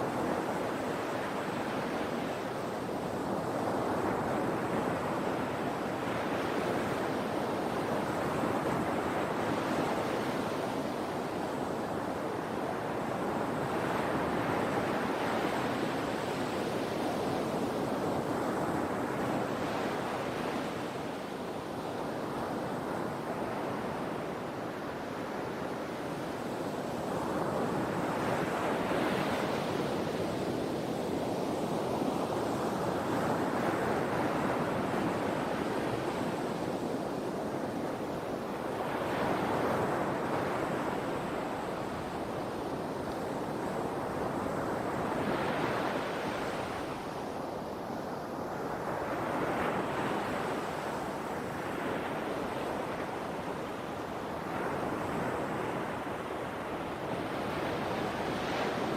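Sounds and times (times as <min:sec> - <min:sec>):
sea waves breaking on shore: 0:00.0 - 0:58.9.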